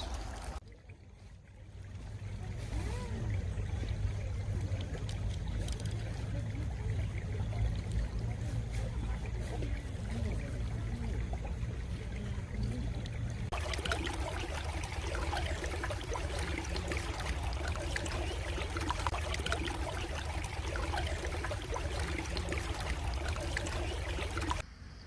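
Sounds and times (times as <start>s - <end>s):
stream water babbling: 0.0s - 24.6s.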